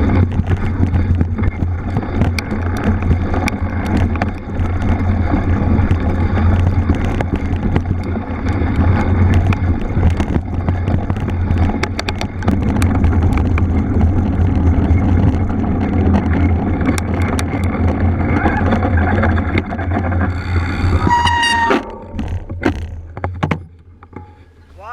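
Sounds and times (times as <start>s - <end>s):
bike rattling clicks: 0.0s - 21.0s
tyre and wind rumble: 0.0s - 24.9s.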